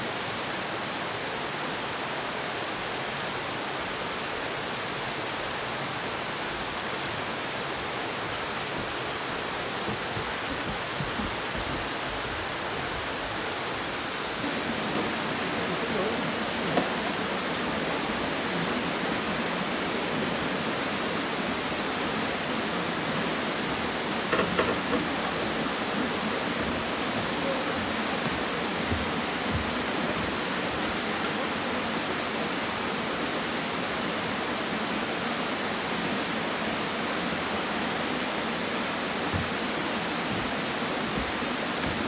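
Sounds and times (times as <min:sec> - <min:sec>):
stream flowing over rocks: 0:00.0 - 0:42.0.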